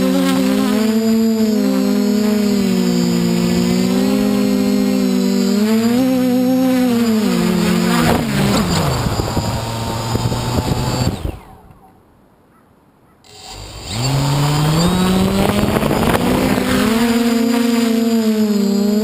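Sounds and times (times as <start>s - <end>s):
drone propellers humming: 0.0s - 11.8s, 13.3s - 19.0s.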